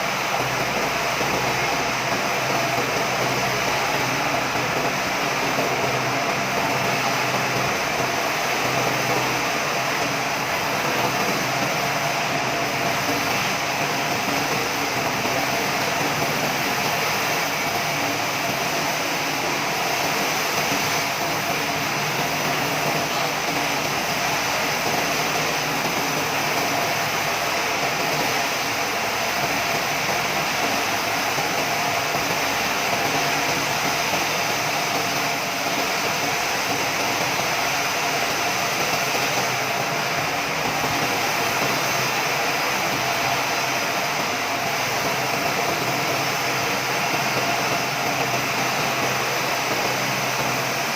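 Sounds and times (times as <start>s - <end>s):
sawmill machinery running: 0.0s - 50.9s
thin steady whine: 0.0s - 50.9s.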